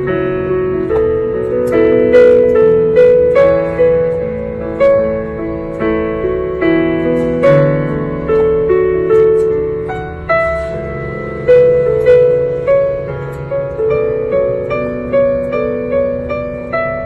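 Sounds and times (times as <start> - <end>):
slow electronic keyboard piano piece: 0.0 - 17.0.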